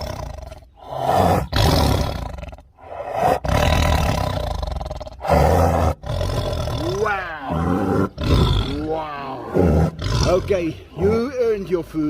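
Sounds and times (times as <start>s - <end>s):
tiger roaring: 0.0s - 11.6s.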